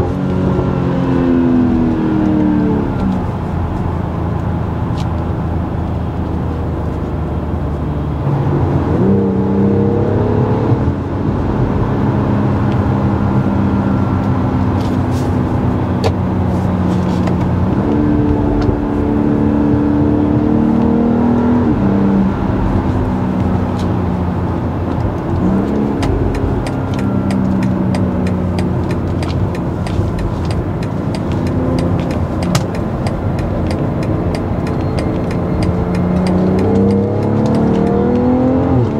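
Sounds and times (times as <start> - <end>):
car engine revving: 0.0 - 38.9
road rumble: 0.0 - 38.9.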